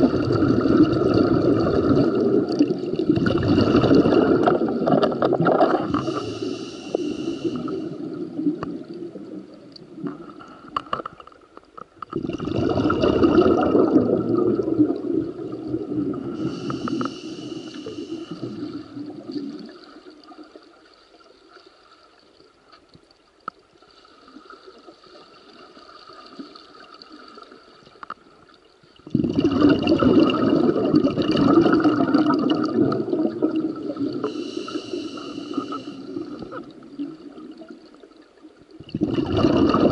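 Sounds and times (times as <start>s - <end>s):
underwater water rushing and bubbling: 0.0s - 39.9s.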